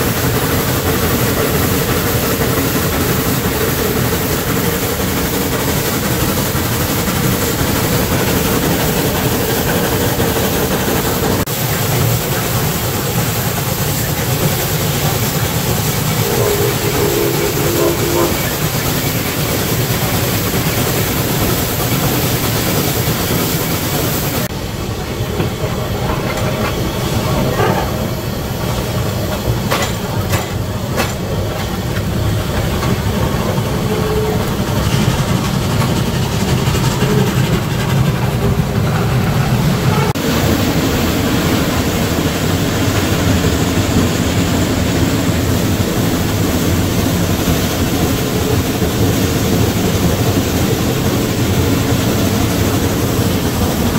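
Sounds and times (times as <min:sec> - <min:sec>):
hissing steam: 0:00.0 - 0:53.9
steam locomotive rumbling: 0:00.0 - 0:53.9
wheels clattering on rail: 0:00.0 - 0:53.9.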